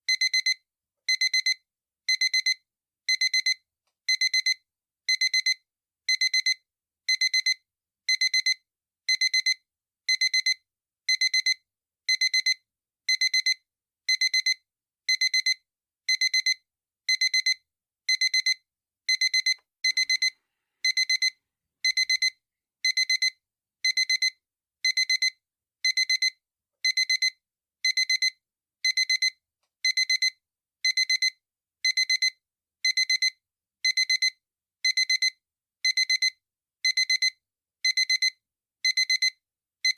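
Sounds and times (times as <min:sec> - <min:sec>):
digital alarm clock beeping: 0:00.1 - 0:39.9.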